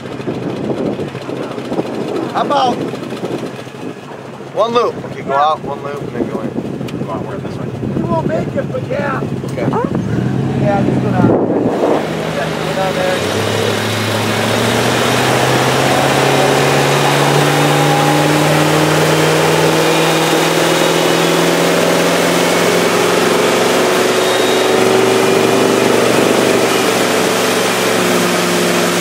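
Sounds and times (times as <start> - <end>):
motorboat engine running: 0.0 - 29.0
water rushing: 0.0 - 29.0.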